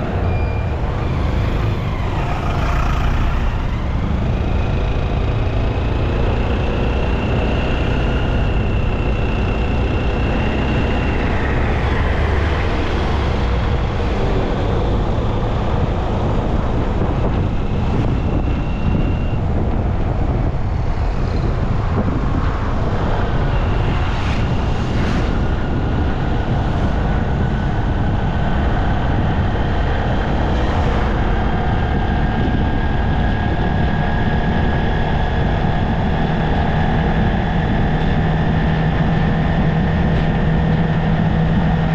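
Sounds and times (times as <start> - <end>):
passing vehicles: 0.0 - 41.9
wind and road noise: 0.0 - 41.9.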